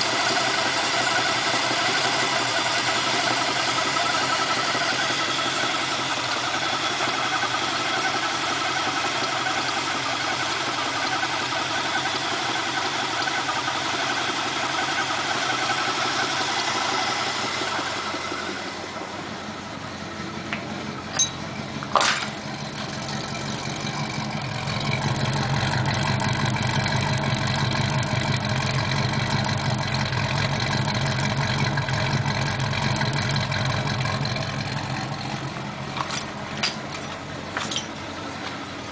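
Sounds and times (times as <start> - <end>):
engine running with knock: 0.0 - 38.9.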